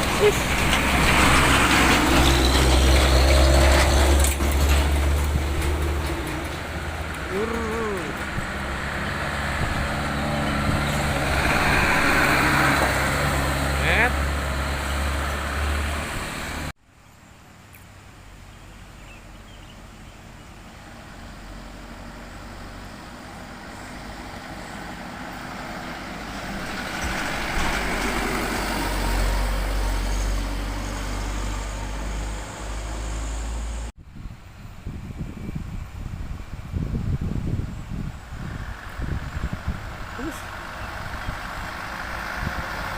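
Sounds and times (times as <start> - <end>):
heavy truck approaching: 0.0 - 16.8, 20.2 - 34.4, 36.4 - 42.9.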